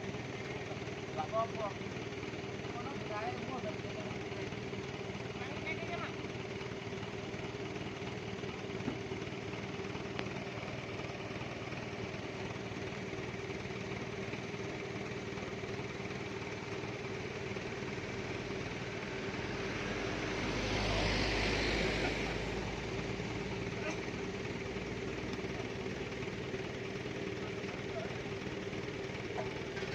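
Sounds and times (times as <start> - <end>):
vehicle approaching with rumble: 0.0 - 29.9
vehicle engine idling: 0.0 - 29.9.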